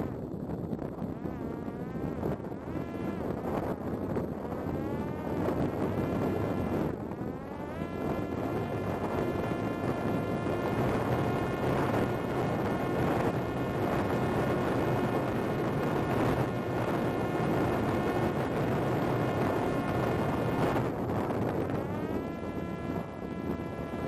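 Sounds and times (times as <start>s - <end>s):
drone propeller whining: 0.0s - 24.0s
wind rush: 0.0s - 24.0s.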